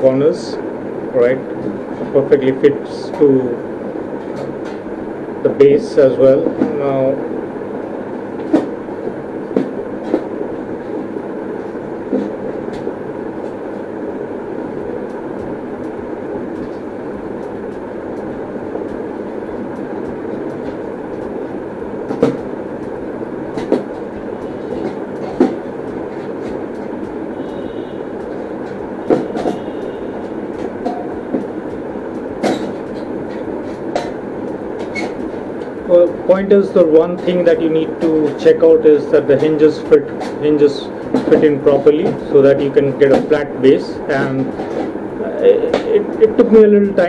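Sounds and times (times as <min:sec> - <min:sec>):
steady background rumble: 0:00.0 - 0:47.0.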